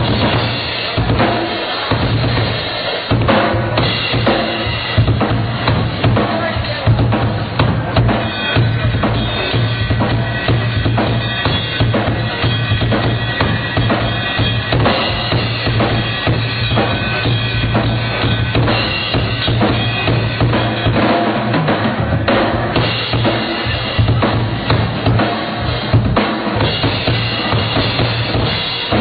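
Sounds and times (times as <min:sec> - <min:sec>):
rock drum kit playing: 0:00.0 - 0:29.0.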